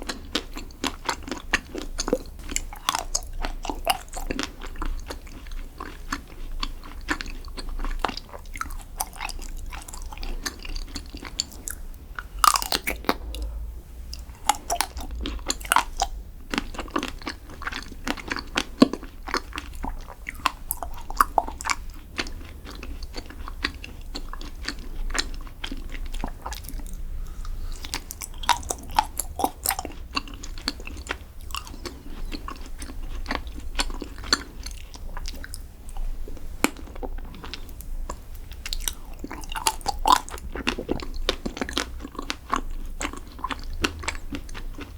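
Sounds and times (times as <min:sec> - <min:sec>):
chewing: 0:00.0 - 0:44.9.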